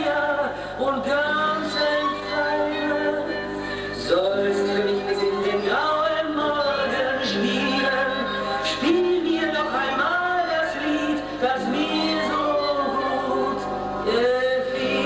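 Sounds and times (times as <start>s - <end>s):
musical accompaniment: 0.0s - 15.0s
person singing long held notes: 0.0s - 15.0s.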